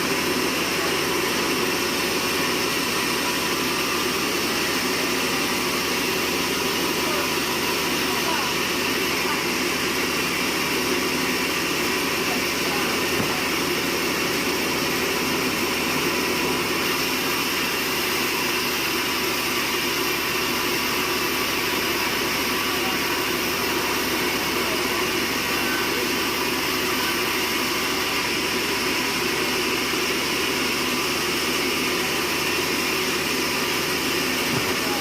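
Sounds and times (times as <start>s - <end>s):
sawmill machinery drone: 0.0s - 35.0s.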